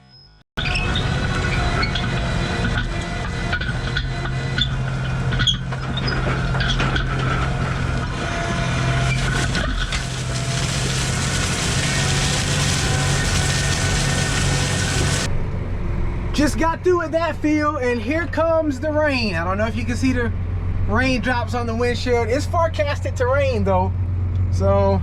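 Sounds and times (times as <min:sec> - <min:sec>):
tractor engine running: 0:00.6 - 0:25.0.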